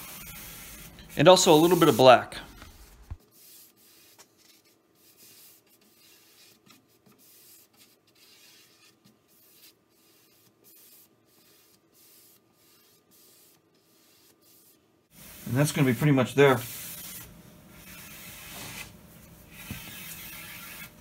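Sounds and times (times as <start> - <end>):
brush swishing on wood: 0.0 - 20.0.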